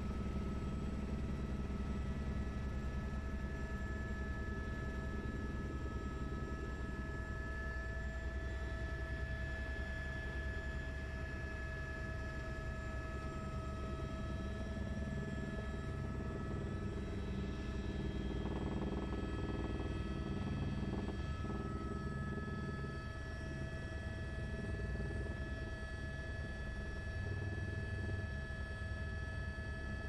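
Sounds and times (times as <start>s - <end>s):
high turbine whine: 0.0s - 30.0s
low rotor drone: 0.0s - 30.0s.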